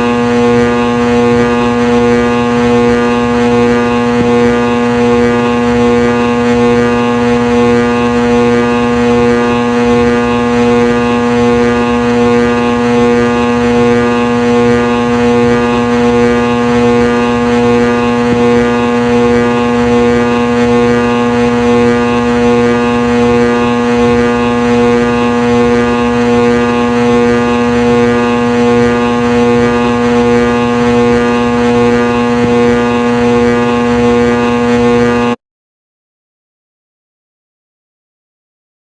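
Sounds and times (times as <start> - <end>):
ceiling fan motor humming: 0.0 - 35.4.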